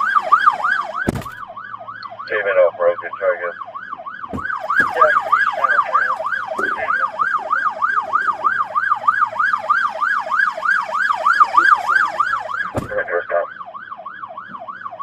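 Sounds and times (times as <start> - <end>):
police siren yelping: 0.0 - 15.0.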